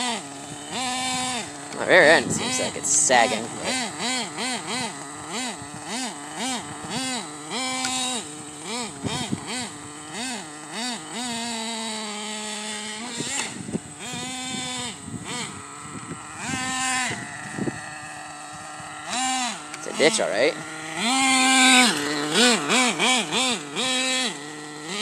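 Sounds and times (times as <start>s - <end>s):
small nitro engine revving: 0.0s - 25.0s.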